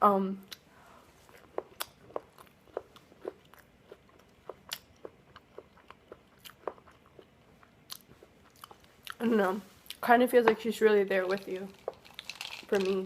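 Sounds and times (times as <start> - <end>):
chewing crunchy food: 0.5 - 9.2, 11.2 - 13.0.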